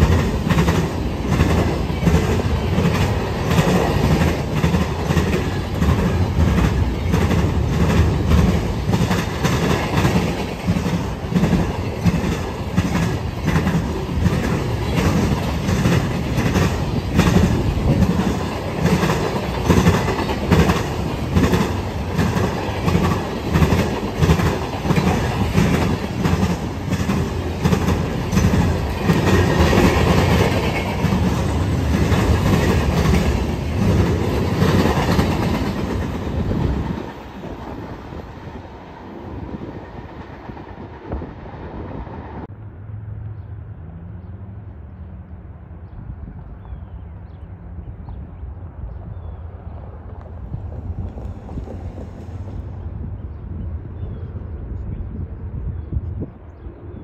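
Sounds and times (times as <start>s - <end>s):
low heavy train rumble: 0.0s - 57.0s.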